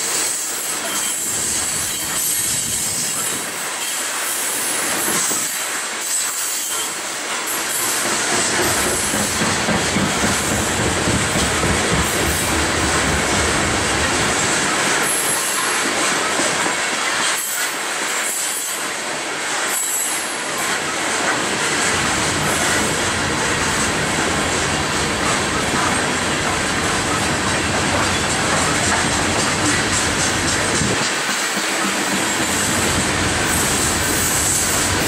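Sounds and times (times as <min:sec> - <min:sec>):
steel wheels on rail: 0:00.0 - 0:35.0.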